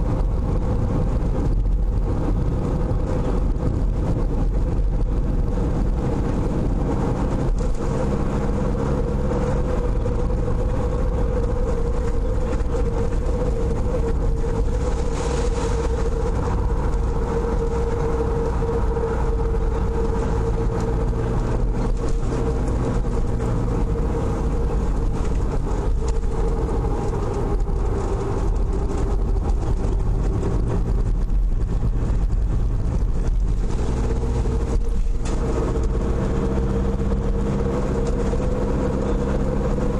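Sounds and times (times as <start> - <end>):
car engine hum: 0.0 - 39.9
tyre and road noise: 0.0 - 39.9.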